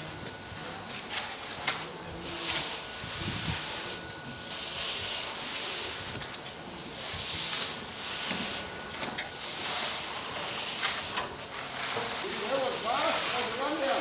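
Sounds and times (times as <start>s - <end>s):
tools scraping through wet concrete: 1.0s - 14.0s.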